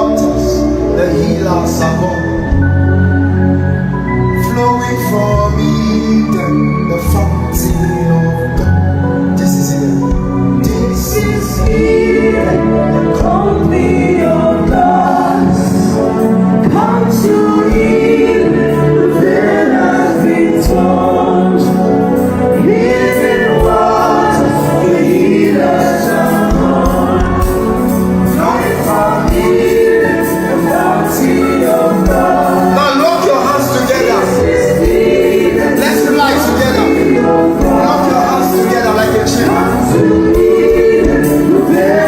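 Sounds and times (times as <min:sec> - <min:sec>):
sustained instrumental chords: 0:00.0 - 0:42.0
voices singing gospel: 0:00.0 - 0:42.0.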